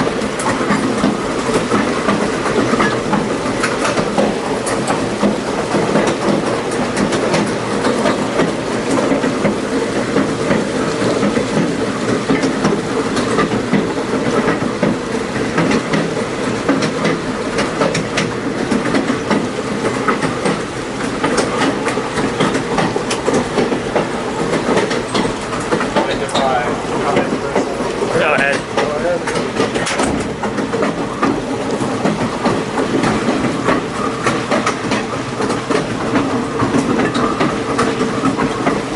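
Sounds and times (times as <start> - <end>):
train rumbling on rails: 0.0 - 38.9
wheels clicking over track: 0.0 - 38.9.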